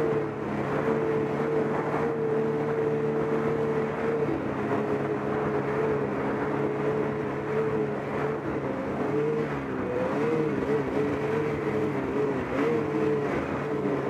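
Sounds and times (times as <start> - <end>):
snowmobile engine droning: 0.0 - 14.0.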